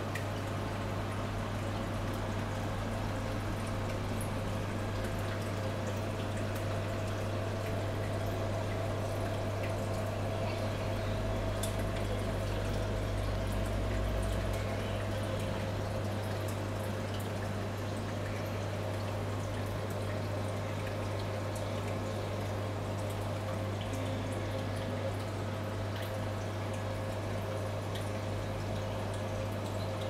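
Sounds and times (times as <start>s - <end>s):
aquarium pump hum: 0.0s - 30.0s
water trickling and dripping: 0.0s - 30.0s.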